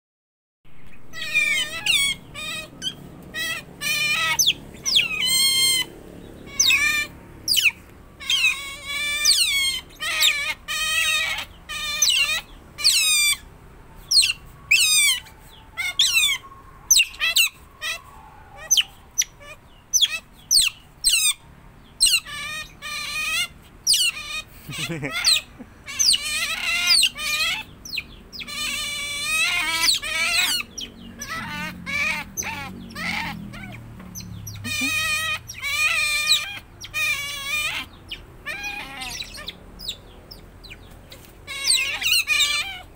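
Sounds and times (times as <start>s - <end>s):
otters squeaking and chirping: 0.7s - 42.9s.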